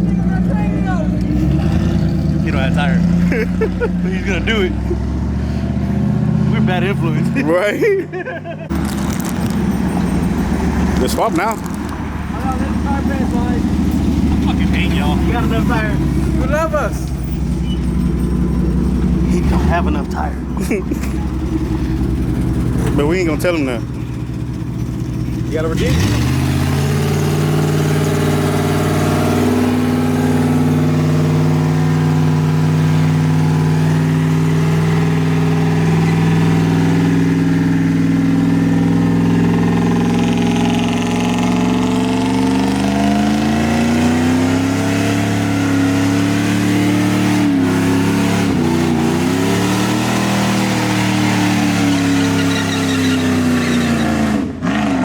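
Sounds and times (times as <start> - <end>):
truck engine at high revs: 0.0 - 55.0.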